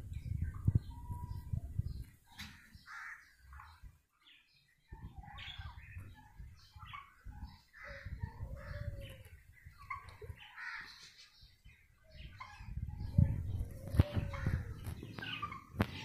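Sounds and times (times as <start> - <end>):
poultry calling and chirping: 0.1 - 16.0.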